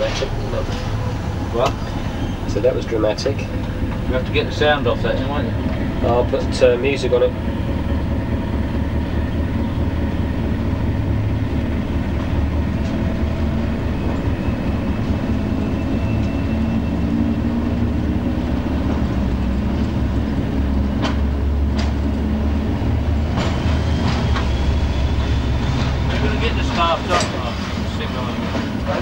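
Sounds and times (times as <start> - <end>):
diesel locomotive running: 0.0 - 29.0.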